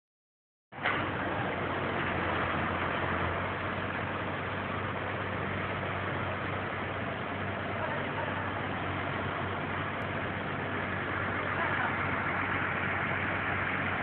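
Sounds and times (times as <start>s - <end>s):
truck engine humming: 0.7s - 14.0s.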